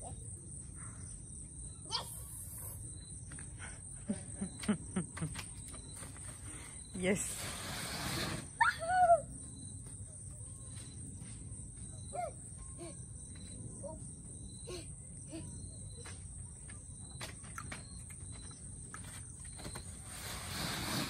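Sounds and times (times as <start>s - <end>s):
crickets droning: 0.0s - 21.0s.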